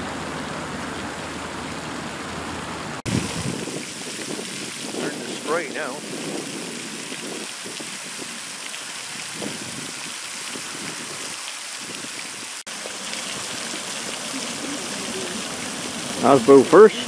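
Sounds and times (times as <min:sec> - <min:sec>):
fountain water pattering on pond: 0:00.0 - 0:17.0.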